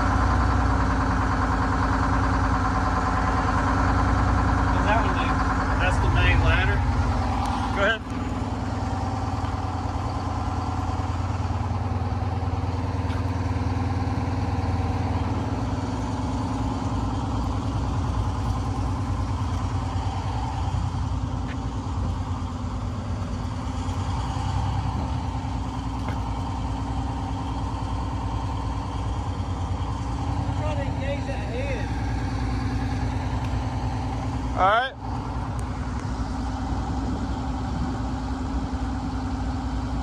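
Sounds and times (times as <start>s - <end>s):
engine running under load: 0.0s - 40.0s.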